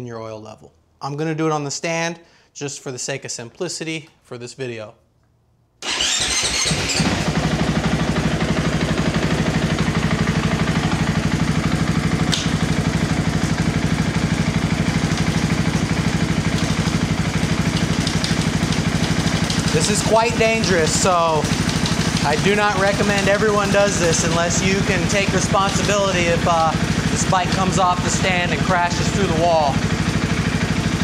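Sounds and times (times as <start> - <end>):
motorcycle engine starting and idling: 5.8 - 31.0.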